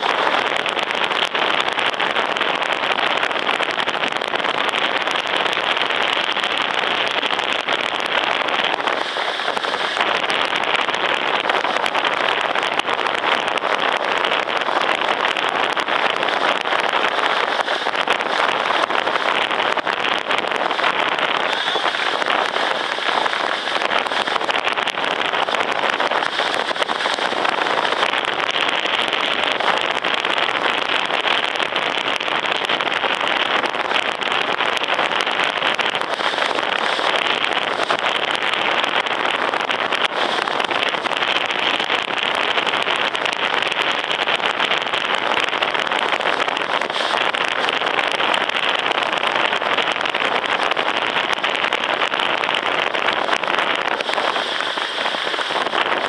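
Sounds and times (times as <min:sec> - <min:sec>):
fine rapid crackle: 0:00.0 - 0:56.0.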